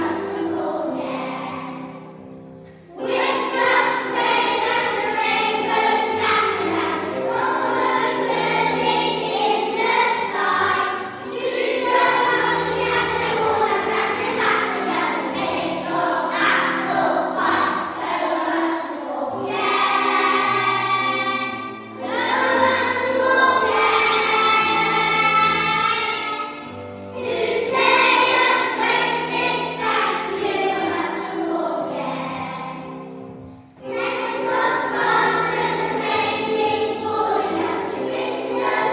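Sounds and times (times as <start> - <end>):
choir singing long notes: 0.0 - 38.9.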